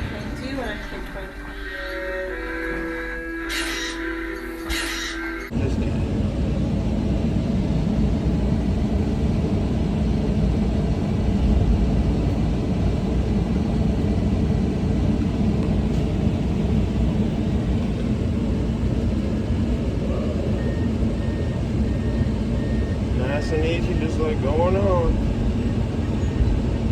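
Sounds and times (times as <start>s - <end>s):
excavator diesel engine rumbling: 0.0s - 26.9s.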